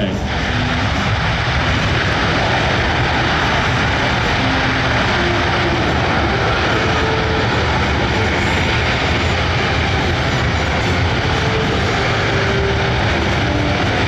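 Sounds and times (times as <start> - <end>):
jet engines running loud: 0.0 - 14.0.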